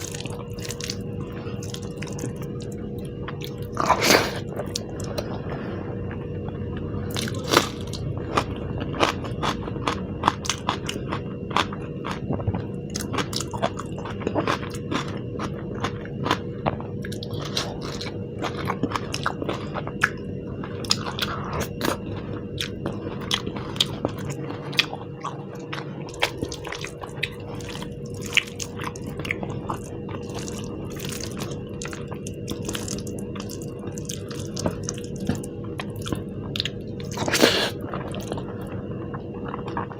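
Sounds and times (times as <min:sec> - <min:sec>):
biting and chewing food: 0:00.0 - 0:05.5, 0:06.7 - 0:39.9
low background hum: 0:00.0 - 0:39.9.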